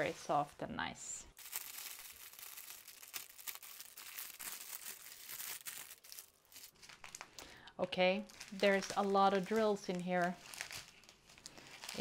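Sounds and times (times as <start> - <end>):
plastic wrap crinkling: 1.3 - 12.0.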